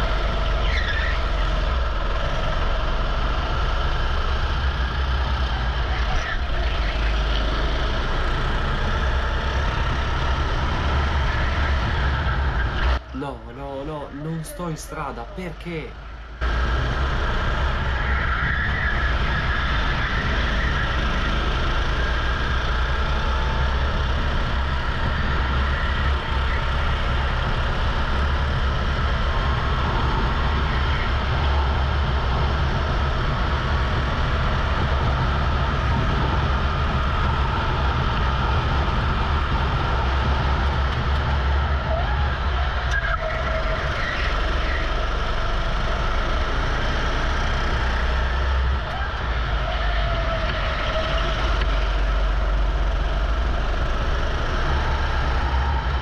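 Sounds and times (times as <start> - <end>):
go-kart engine running: 0.0 - 56.0.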